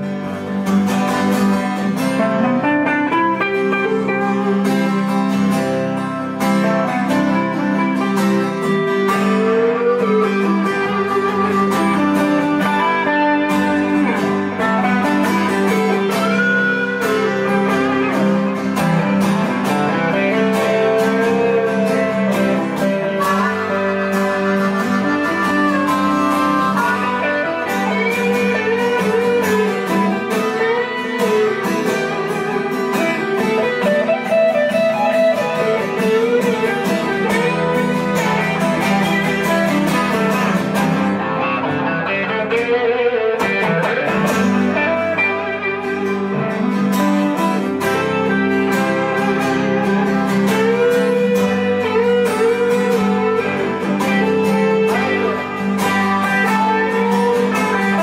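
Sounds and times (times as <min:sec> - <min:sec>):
guitar chord accompaniment: 0:00.0 - 0:58.0
lead guitar bending notes: 0:00.0 - 0:58.0.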